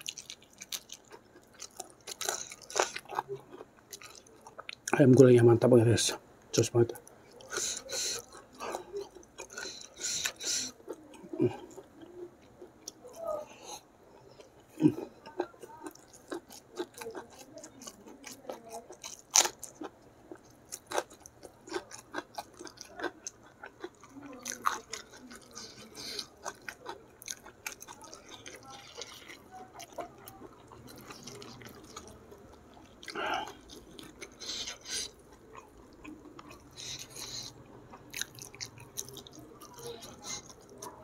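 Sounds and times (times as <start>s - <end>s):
crunchy chewing: 0.0s - 5.0s, 7.0s - 41.0s.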